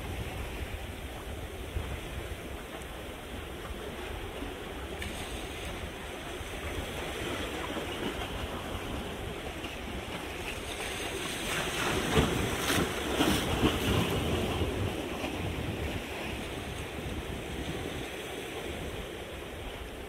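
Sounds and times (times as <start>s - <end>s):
waves washing against rocks: 0.0s - 20.0s.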